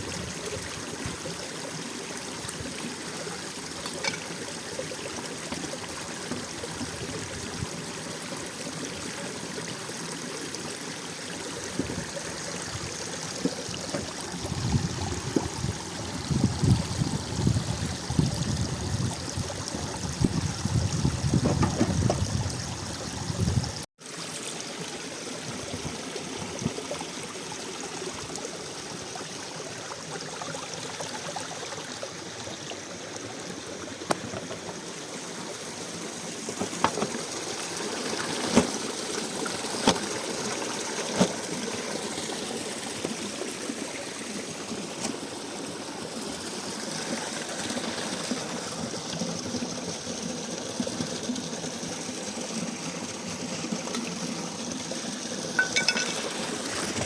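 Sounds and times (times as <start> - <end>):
stream water running: 0.0 - 57.0.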